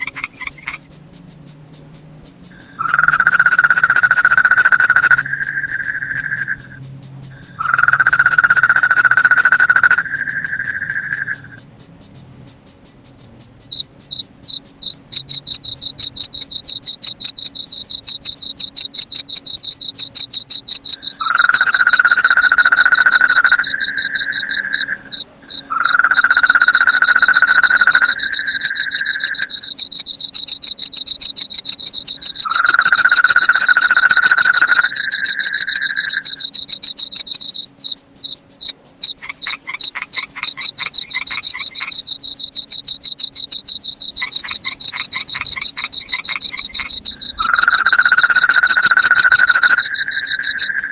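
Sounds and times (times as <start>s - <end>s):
crickets trilling: 0.0s - 50.9s
night animal calling: 0.0s - 50.9s.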